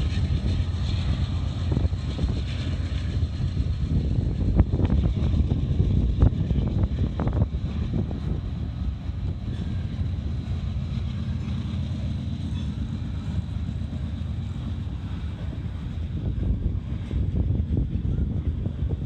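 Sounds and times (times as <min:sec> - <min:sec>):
train knocks: 0:00.0 - 0:18.9
train wheels rumbling on rails: 0:00.0 - 0:19.0
wind buffeting microphone: 0:00.0 - 0:19.0.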